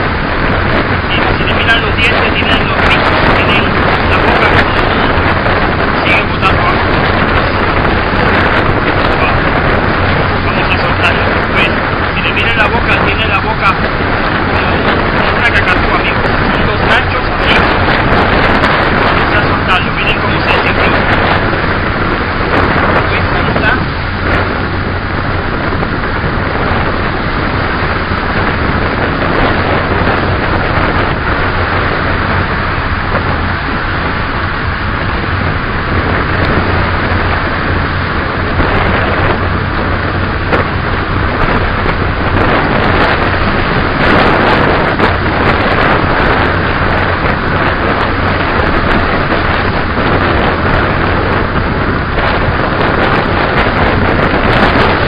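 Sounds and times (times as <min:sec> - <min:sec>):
wind noise on microphone: 0:00.0 - 0:55.0.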